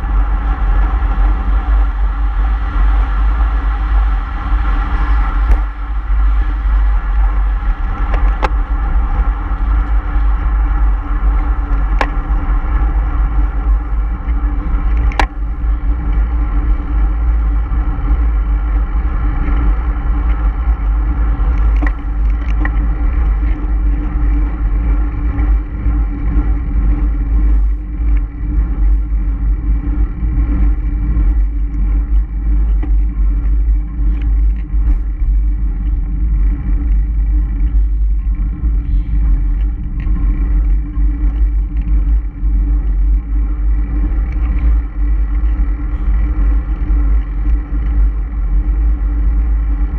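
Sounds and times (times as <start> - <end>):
vehicle engine cruising: 0.0 - 49.9
wind rumble on microphone: 0.0 - 49.9.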